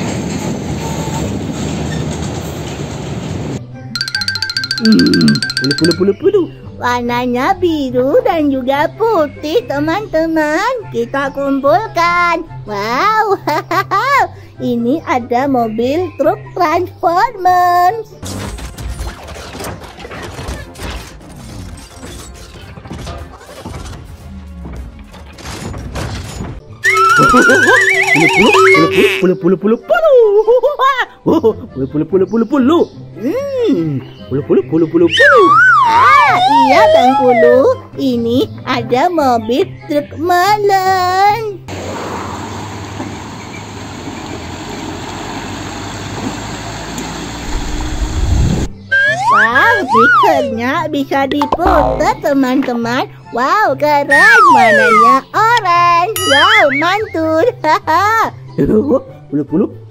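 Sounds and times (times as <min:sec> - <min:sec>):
music: 0:03.0 - 0:41.7, 0:48.7 - 0:59.9.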